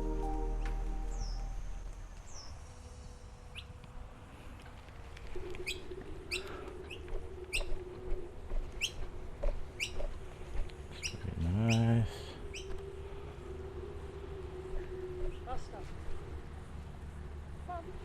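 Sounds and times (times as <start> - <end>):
birds chirping: 0.0 - 3.8, 5.3 - 18.0.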